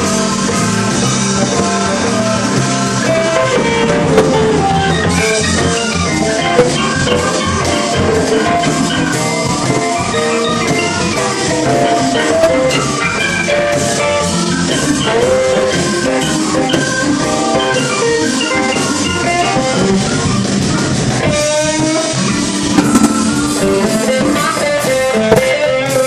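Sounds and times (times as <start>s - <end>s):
drums: 0.0s - 26.0s
electric guitar: 0.0s - 26.0s
live blues band: 0.0s - 26.0s.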